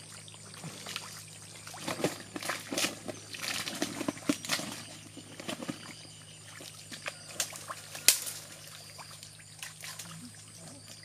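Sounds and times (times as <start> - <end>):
splashing through shallow water: 0.0 - 11.0.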